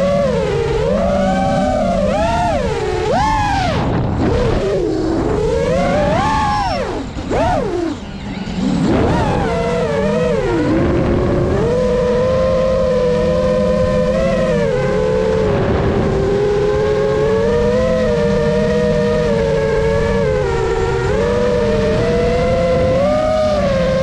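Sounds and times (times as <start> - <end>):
model airplane motors buzzing: 0.0 - 24.0.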